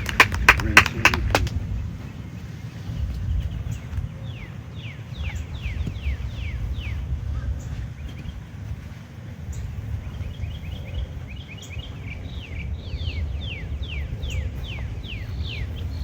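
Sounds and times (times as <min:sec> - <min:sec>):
low rumble of outdoor noise: 0:00.0 - 0:16.0.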